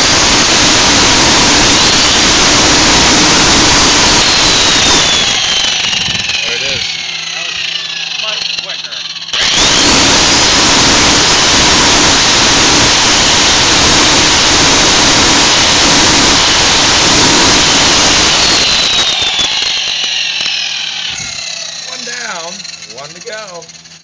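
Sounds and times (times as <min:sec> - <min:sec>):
angle grinder grinding steel: 0:00.0 - 0:24.0.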